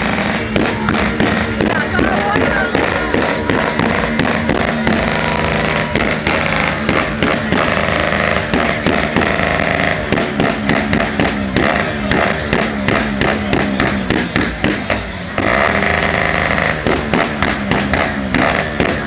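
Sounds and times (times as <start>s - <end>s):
loud music from car speakers: 0.0s - 19.0s.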